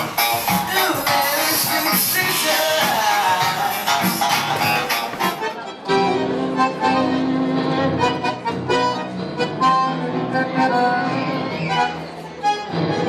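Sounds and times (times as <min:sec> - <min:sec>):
accordion playing long notes: 0:00.0 - 0:13.0
music: 0:00.0 - 0:13.0.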